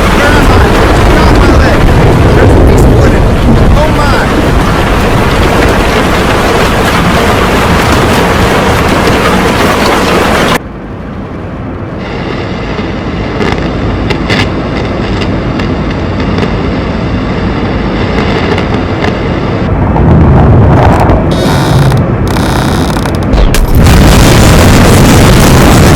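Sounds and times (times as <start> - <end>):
scattered crackles: 0.0 - 10.6, 12.0 - 25.9
low rumble: 0.0 - 25.9
tornado roaring: 0.0 - 25.9.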